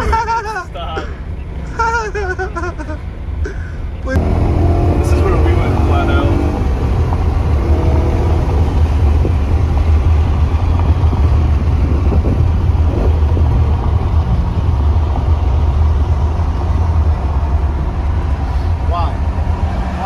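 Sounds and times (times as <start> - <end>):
car engine drone: 0.0 - 20.0
tyre and road noise: 0.0 - 20.0.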